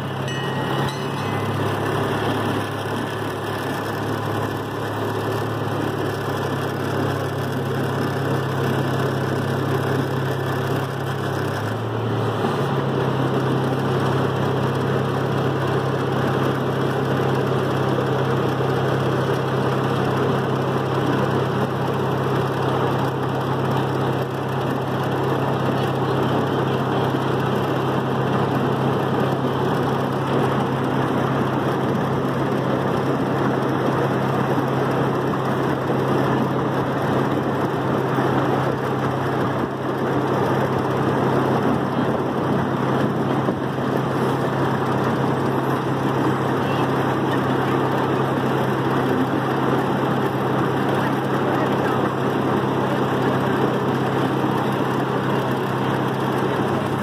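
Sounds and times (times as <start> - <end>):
small train engine running: 0.0 - 57.0
train rushing along track: 0.0 - 57.0.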